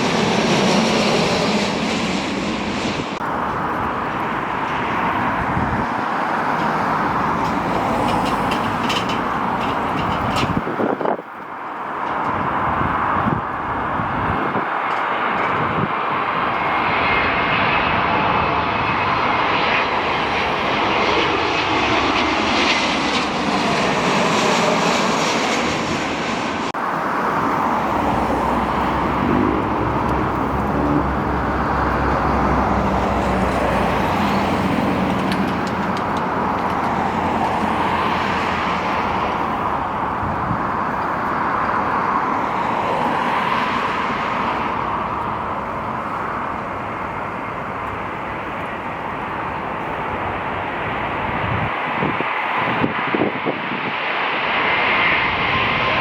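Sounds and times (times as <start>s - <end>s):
jet engines flying past: 0.0s - 56.0s.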